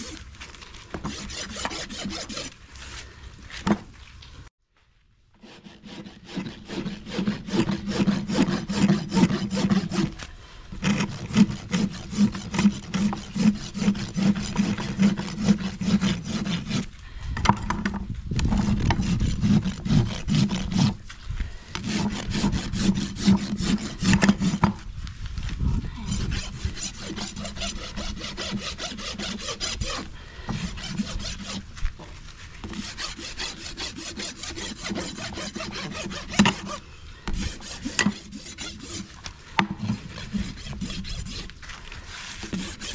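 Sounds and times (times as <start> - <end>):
rasp scraping a hoof: 0.0 - 3.8, 5.4 - 24.9, 25.6 - 42.9.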